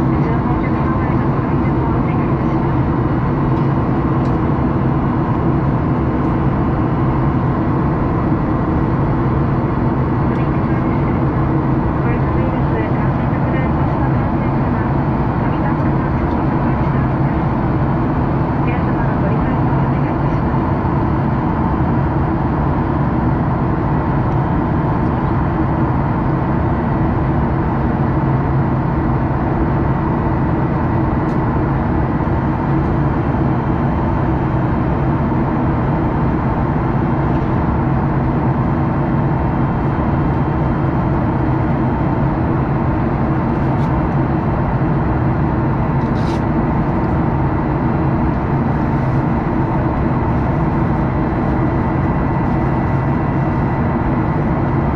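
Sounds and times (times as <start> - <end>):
jet engine and airflow noise: 0.0 - 54.9.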